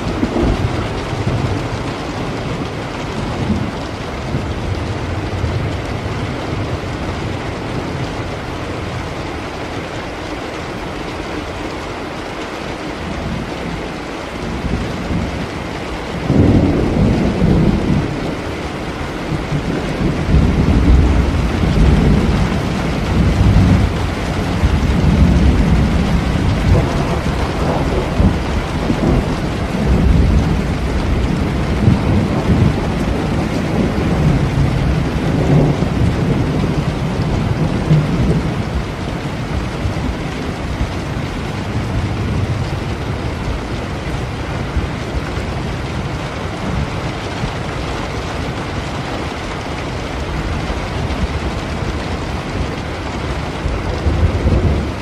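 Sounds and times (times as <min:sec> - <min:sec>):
rolling thunder: 0:00.0 - 0:08.1, 0:13.0 - 0:55.0
steady rain: 0:00.0 - 0:55.0.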